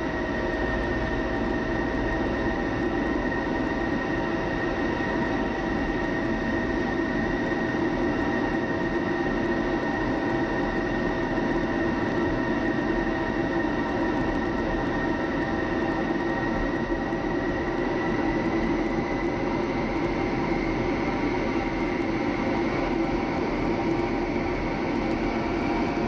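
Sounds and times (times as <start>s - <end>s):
jet cockpit engine and airflow rumble: 0.0s - 26.0s.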